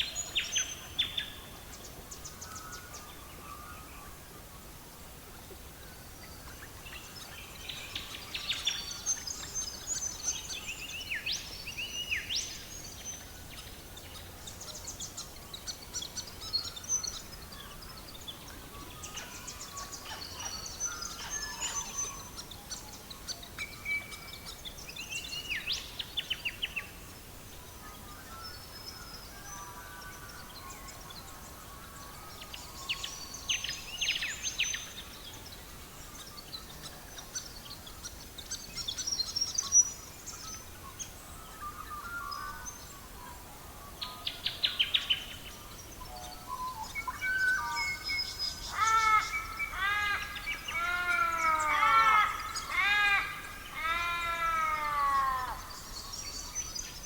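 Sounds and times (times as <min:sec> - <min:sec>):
soft background hiss: 0:00.0 - 0:57.0
songbirds singing: 0:00.0 - 0:57.0.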